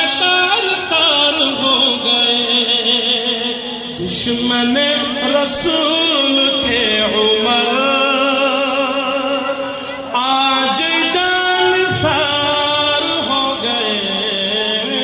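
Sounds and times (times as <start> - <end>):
man singing with held notes: 0.0 - 15.0.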